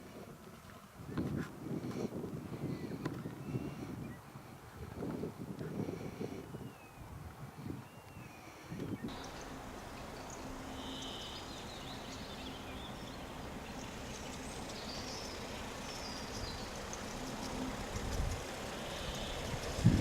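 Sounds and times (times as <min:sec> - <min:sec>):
birds chirping: 0:01.0 - 0:19.8.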